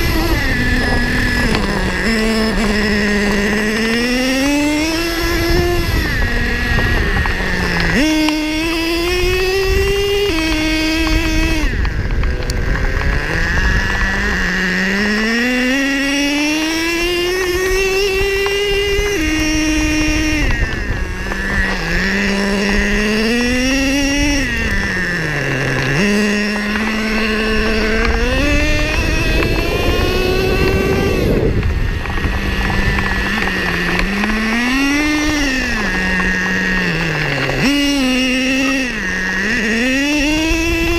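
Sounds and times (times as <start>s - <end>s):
model truck engine revving: 0.0s - 40.9s.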